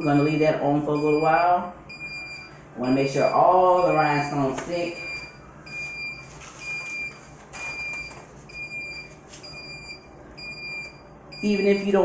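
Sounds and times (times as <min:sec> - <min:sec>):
electronic timer beeping: 0:00.0 - 0:12.0.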